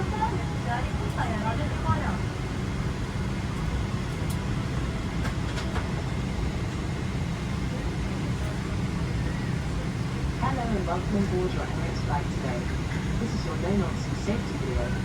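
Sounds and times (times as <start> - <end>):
airliner cabin rumble and hiss: 0.0 - 15.0.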